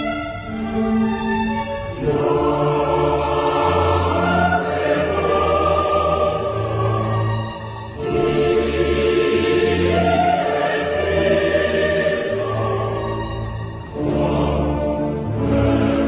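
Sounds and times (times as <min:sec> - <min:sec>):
choir singing sustained chords: 0:00.0 - 0:16.0
orchestra: 0:00.0 - 0:16.0.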